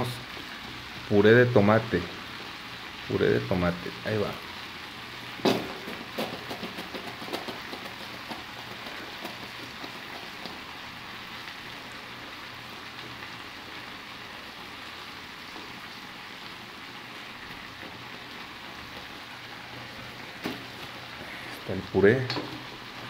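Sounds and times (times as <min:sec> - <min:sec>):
stew sizzling in pots: 0:00.0 - 0:23.0.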